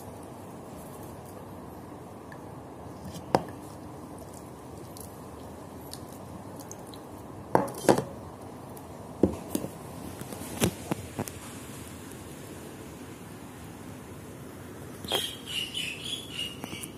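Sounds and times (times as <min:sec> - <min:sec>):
low background hiss: 0:00.0 - 0:16.9.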